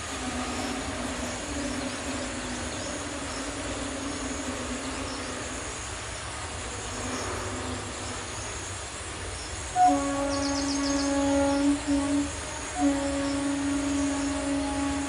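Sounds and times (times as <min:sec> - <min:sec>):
faint low drone: 0:00.0 - 0:15.0
outdoor background hiss: 0:00.0 - 0:15.0.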